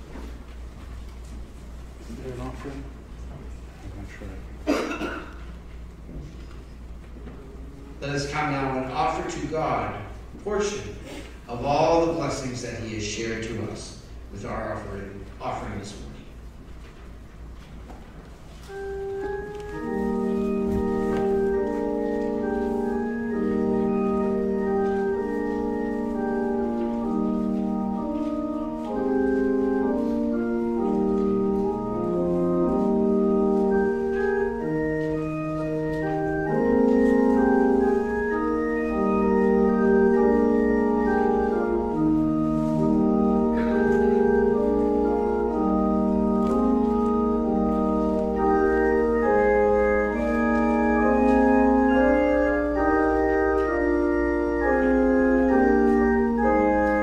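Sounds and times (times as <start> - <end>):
organ playing held chords: 4.0 - 57.0.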